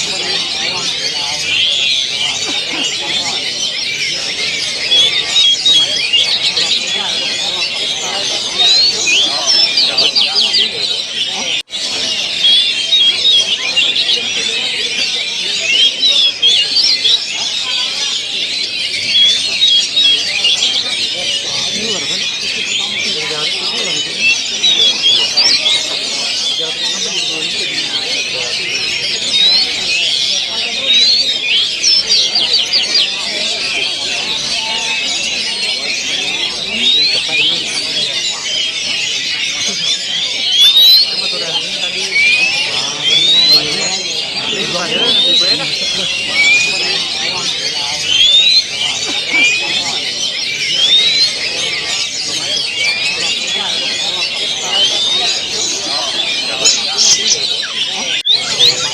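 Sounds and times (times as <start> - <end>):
birds singing whistles and trills: 0.0 - 58.9
chorus of songbirds: 0.0 - 58.9.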